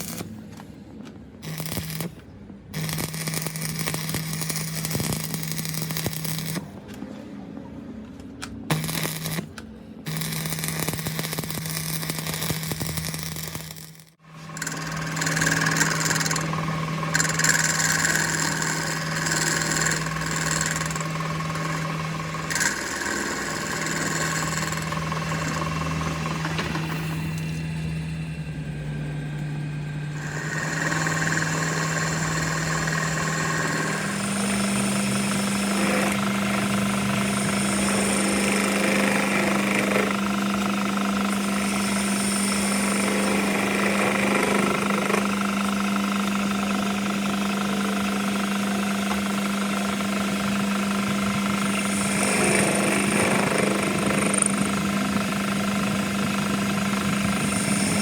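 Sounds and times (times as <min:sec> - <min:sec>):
workshop machine humming: 0:00.0 - 0:58.0.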